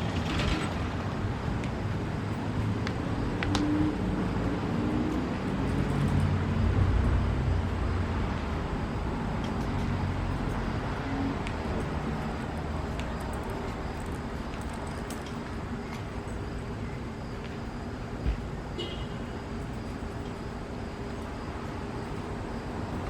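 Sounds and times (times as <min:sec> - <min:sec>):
vehicle engine and tyre rumble: 0:00.0 - 0:23.0.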